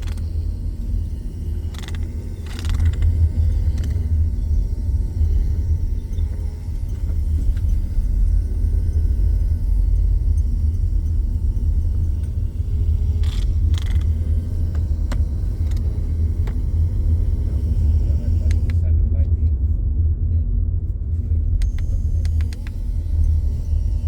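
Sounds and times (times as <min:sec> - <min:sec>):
fan wind on microphone: 0:00.0 - 0:24.0.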